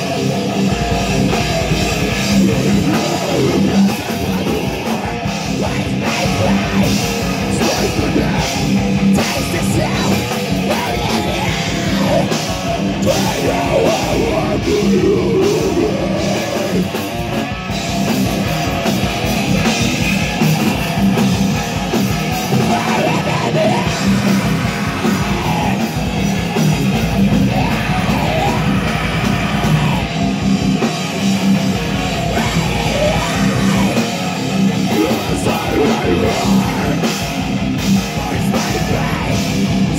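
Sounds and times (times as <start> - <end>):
distorted electric guitars: 0.0 - 39.9
drum kit: 0.0 - 39.9
yelled vocals: 0.0 - 39.9.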